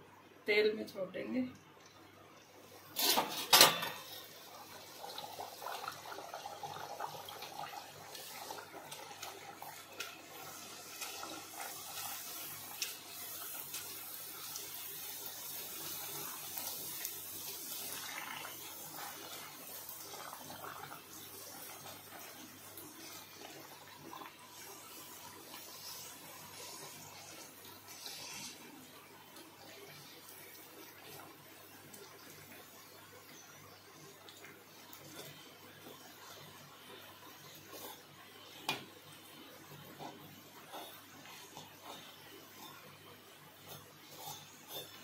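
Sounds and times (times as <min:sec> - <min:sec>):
oil sizzling and bubbling: 0:00.0 - 0:45.0
dough sizzling in hot oil: 0:01.8 - 0:45.0.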